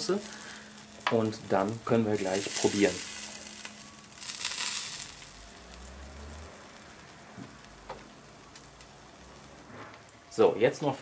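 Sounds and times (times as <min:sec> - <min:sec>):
meatballs sizzling on grill: 0:00.0 - 0:11.0.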